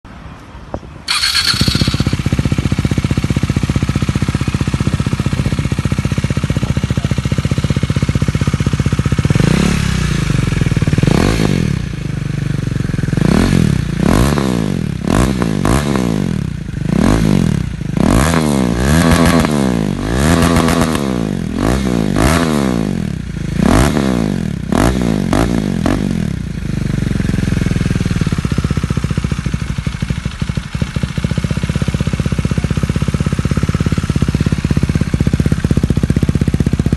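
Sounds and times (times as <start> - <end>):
motorcycle engine idling and revving: 0.7 - 36.9.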